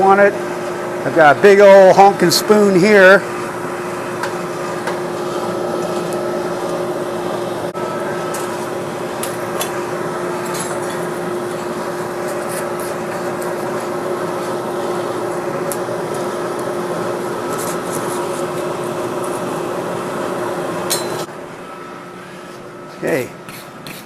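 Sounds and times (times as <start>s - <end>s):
forge air blower humming: 0.0s - 24.0s.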